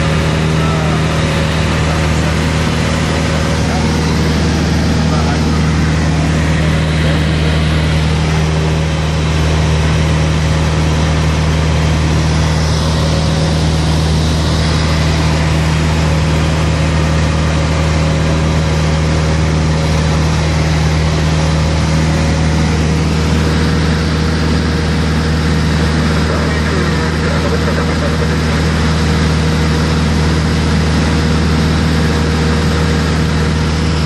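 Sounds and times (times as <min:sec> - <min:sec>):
airplane engine droning: 0:00.0 - 0:34.0.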